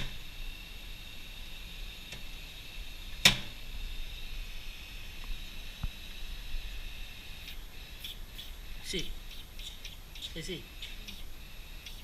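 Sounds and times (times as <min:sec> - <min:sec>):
computer fan whining: 0:00.0 - 0:12.0.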